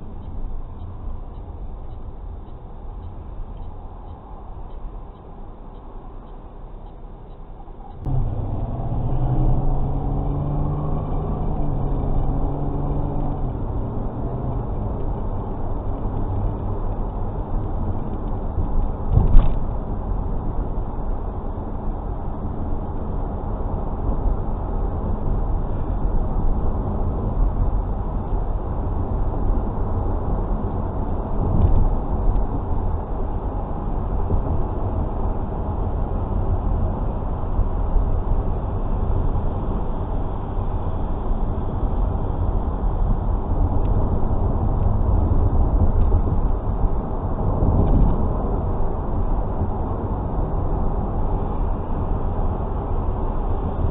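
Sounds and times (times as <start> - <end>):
car road noise rumble: 0.0 - 53.9.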